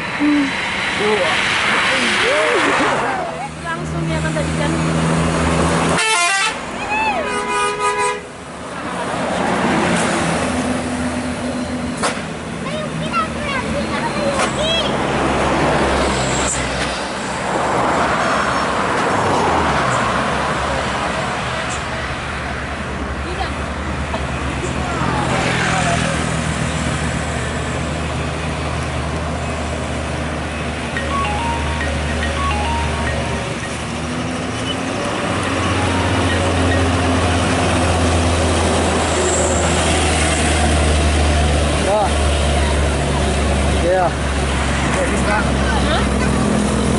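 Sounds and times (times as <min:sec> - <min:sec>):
road traffic rumble: 0:00.0 - 0:46.9.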